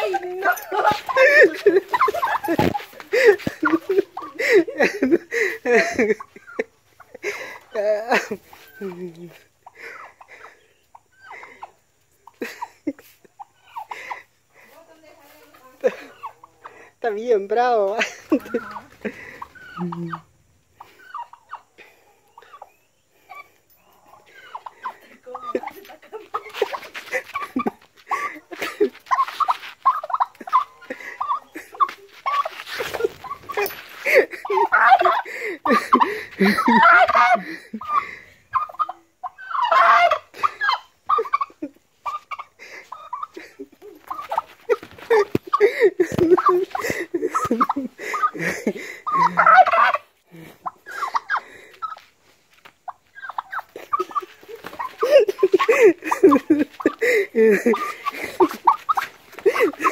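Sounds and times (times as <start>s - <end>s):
turkey gobbling: 0.0s - 4.4s, 9.6s - 12.6s, 13.4s - 14.3s, 18.3s - 52.0s, 52.8s - 59.9s
turkey clucking: 0.0s - 14.3s, 15.8s - 17.0s, 17.9s - 59.9s.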